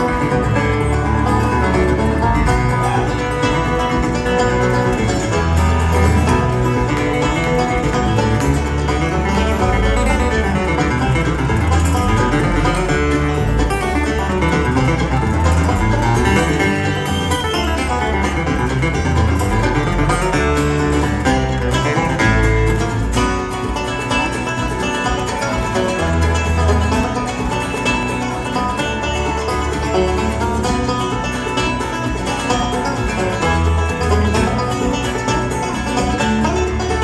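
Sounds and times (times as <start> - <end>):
bluegrass string band playing: 0.0 - 37.0.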